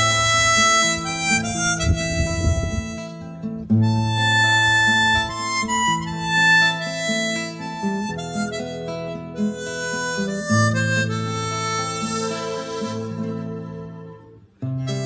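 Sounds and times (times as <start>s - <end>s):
harmonica melody: 0.0s - 15.0s.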